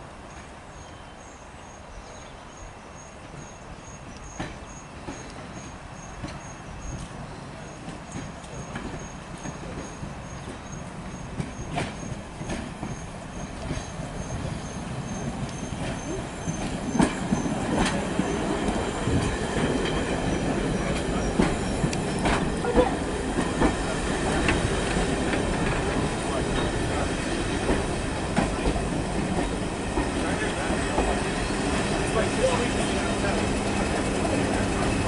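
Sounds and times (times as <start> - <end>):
train coaches rolling past: 0.0 - 35.0
wheels clanking over rail joints: 4.4 - 35.0.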